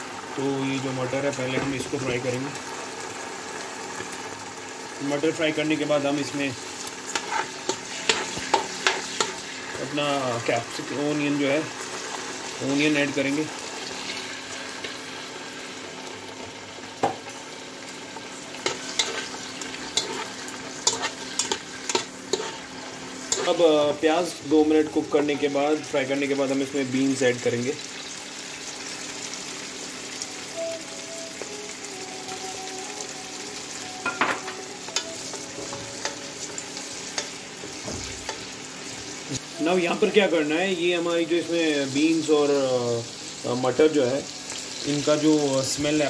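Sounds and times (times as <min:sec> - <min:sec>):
vegetables sizzling in hot oil: 0:00.0 - 0:46.0.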